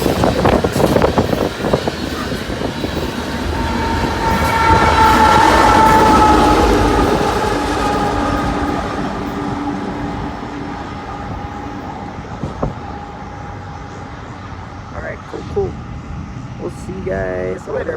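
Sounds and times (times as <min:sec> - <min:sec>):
coal train rolling on rails: 0:00.0 - 0:17.9.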